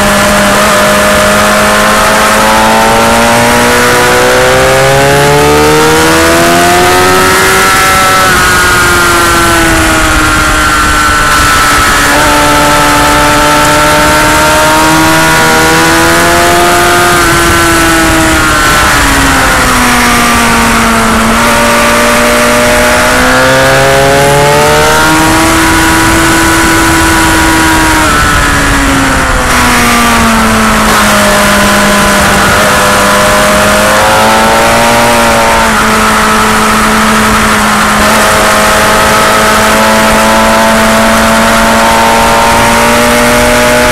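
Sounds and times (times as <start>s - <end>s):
motorcycle engine revving: 0.0s - 43.9s
wind rush on microphone: 0.0s - 43.9s.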